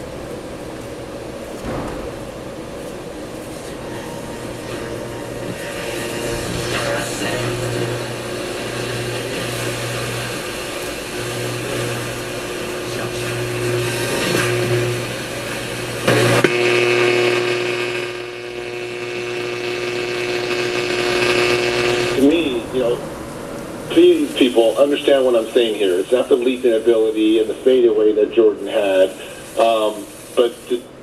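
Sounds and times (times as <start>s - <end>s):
steady tone: 2.2s - 31.0s
radio static and hum: 3.4s - 23.2s, 23.8s - 31.0s.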